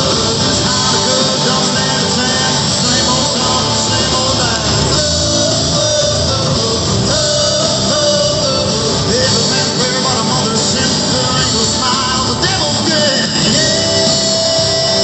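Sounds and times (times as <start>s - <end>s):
drums: 0.0s - 15.0s
electric and acoustic guitars: 0.0s - 15.0s
person singing: 0.0s - 15.0s.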